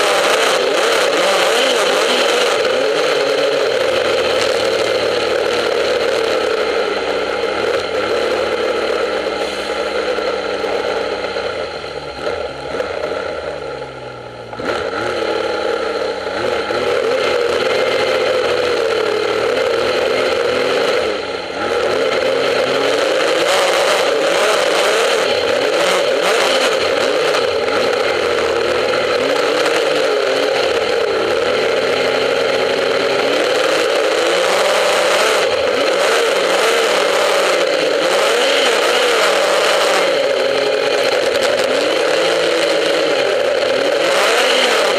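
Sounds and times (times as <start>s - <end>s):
snowmobile engine revving: 0.0s - 44.9s.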